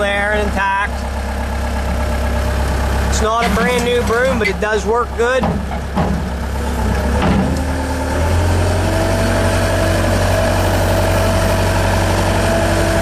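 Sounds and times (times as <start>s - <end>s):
loader engine running: 0.0s - 13.0s.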